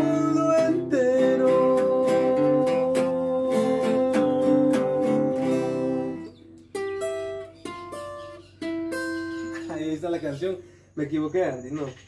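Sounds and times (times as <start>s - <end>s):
acoustic guitar strumming: 0.0s - 10.5s.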